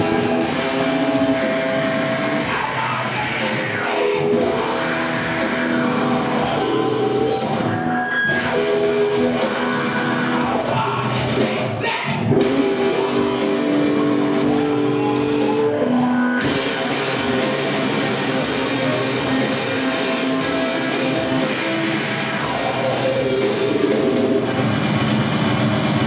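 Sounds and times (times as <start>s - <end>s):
person singing: 0.0s - 24.5s
live rock band playing: 0.0s - 26.0s.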